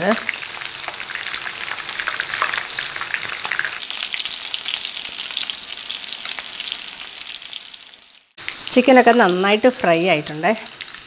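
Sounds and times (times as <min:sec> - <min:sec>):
chicken deep-frying sizzle: 0:00.0 - 0:11.0.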